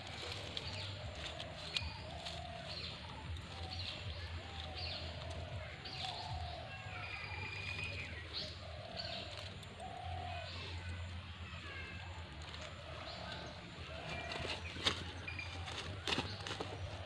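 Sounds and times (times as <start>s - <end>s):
birds calling and chirping: 0.0s - 17.0s.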